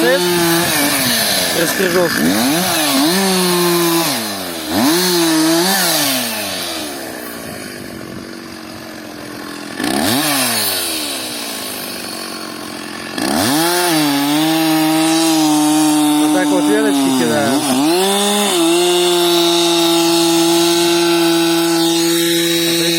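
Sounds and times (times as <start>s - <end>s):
chainsaw revving and cutting: 0.0s - 22.9s.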